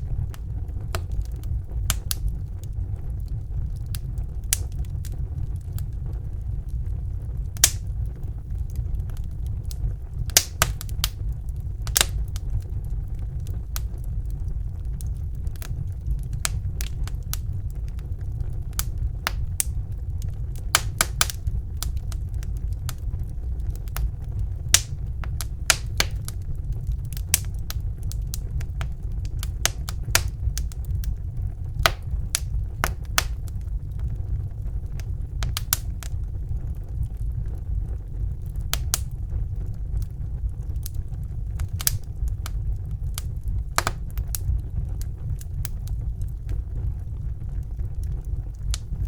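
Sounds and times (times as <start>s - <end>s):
fire crackling and popping: 0.0s - 49.0s
low rumble of flames: 0.0s - 49.0s.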